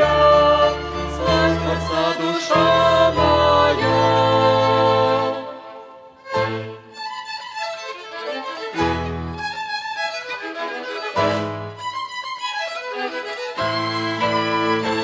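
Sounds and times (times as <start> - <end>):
violin orchestra playing: 0.0 - 15.0.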